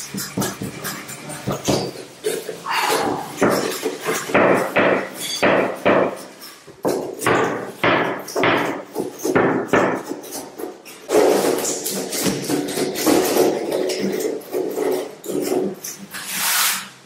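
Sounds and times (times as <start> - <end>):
block rubbing on ceramic tile: 0.0 - 17.0.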